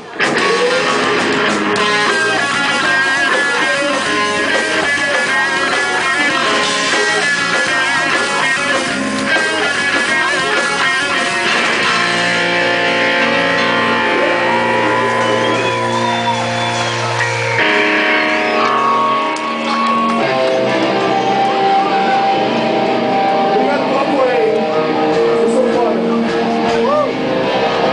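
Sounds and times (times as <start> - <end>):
electric guitar: 0.0 - 27.9
rock band playing: 0.0 - 27.9.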